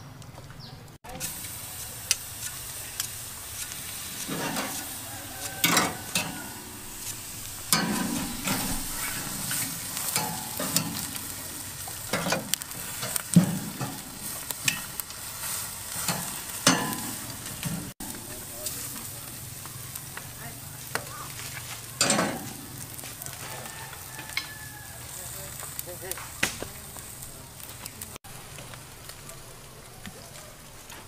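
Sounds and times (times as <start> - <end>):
meat sizzling on grill: 1.0 - 31.0
tongs and knife scraping grill bars: 1.2 - 26.1.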